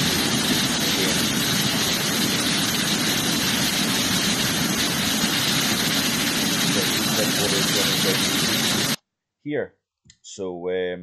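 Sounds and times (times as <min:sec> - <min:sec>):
torrential rain roaring: 0:00.0 - 0:09.0.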